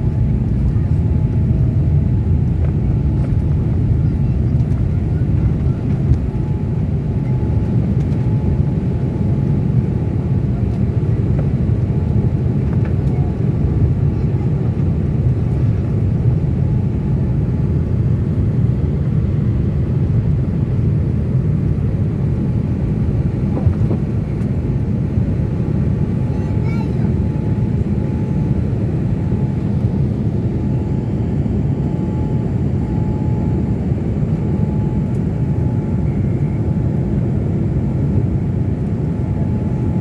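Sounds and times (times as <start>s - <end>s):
jet engines rumbling: 0.0s - 40.0s.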